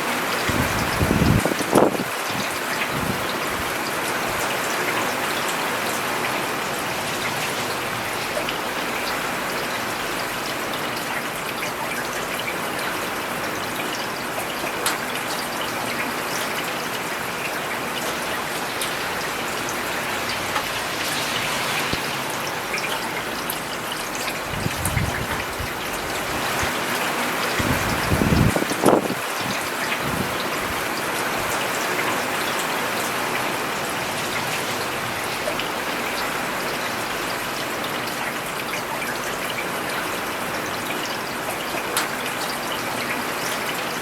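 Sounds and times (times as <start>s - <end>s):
rain falling on a paved road: 0.0s - 44.0s.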